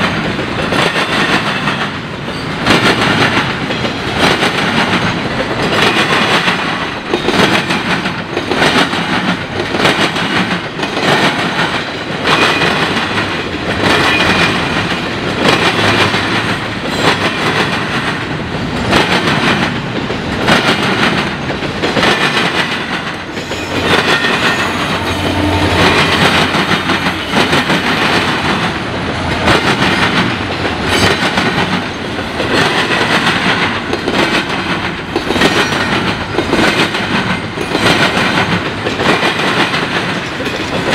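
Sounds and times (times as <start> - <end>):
train wheels clattering over crossing: 0.0 - 40.9.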